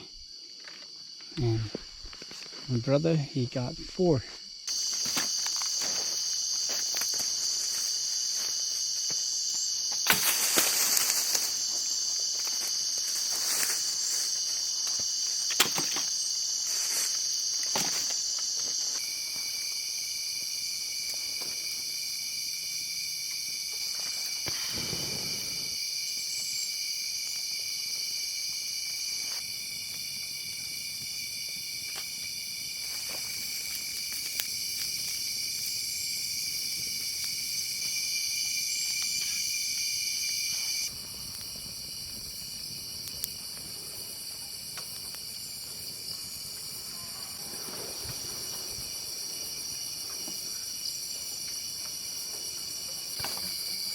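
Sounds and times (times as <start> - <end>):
insects shrilling: 0.0 - 53.9
lower-pitched insect: 0.0 - 53.9.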